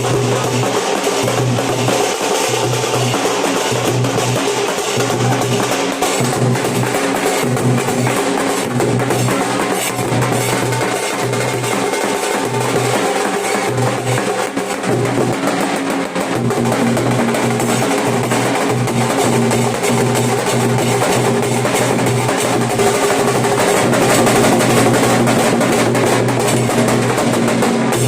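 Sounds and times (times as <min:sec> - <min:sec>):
barrel drums beating: 0:00.0 - 0:28.0.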